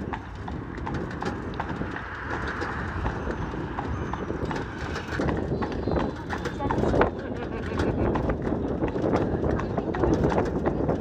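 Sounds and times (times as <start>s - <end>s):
horse hooves clip-clopping: 0.0s - 11.0s.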